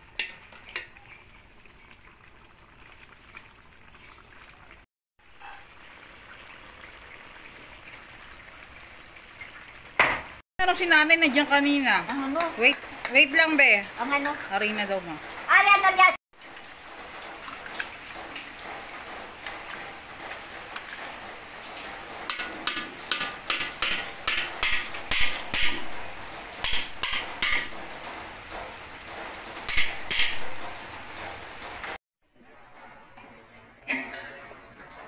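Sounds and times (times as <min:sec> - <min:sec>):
stew simmering sizzle: 0:00.0 - 0:35.0.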